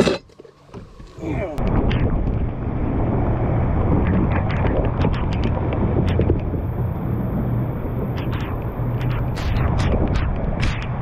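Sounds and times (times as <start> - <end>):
wind buffeting microphone: 1.2 - 11.0
boat motor running: 1.6 - 11.0.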